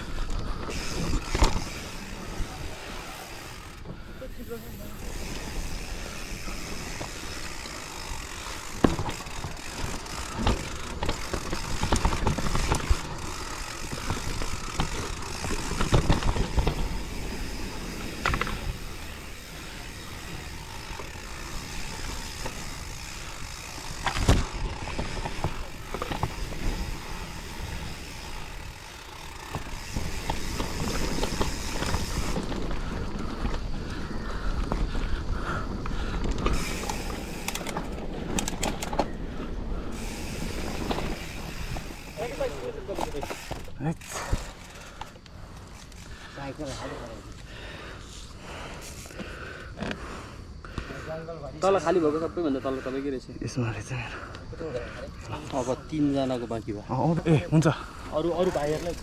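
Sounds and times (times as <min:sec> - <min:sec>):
bike rattling: 0:00.0 - 0:59.0
bike tyre rush on trail: 0:00.0 - 0:59.0.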